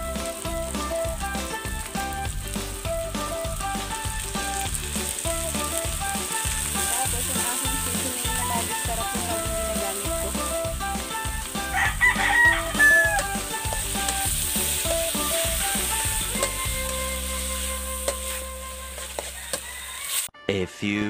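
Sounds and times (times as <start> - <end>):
background music: 0.0 - 19.7, 20.4 - 21.0
food sizzling in a wok: 0.0 - 20.3.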